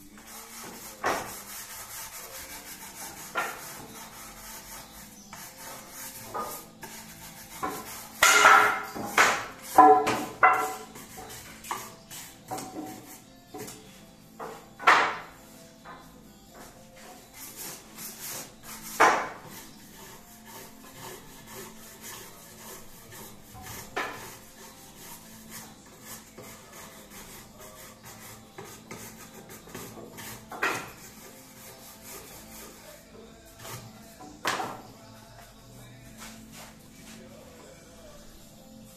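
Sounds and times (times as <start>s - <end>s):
hand tool rasping wood: 0.2s - 13.8s, 16.7s - 34.9s.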